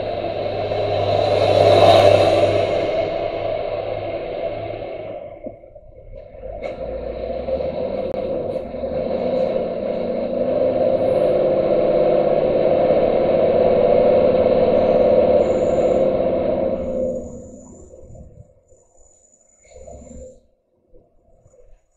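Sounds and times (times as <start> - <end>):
lorry engine and road noise: 0.0 - 20.3
tractor mechanical noise: 0.0 - 20.5.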